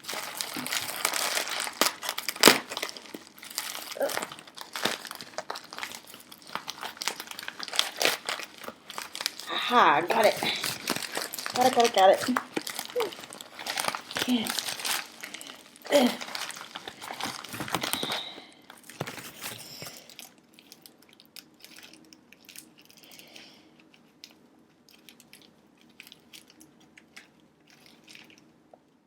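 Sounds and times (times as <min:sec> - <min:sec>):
packaging crinkling: 0:00.0 - 0:28.5.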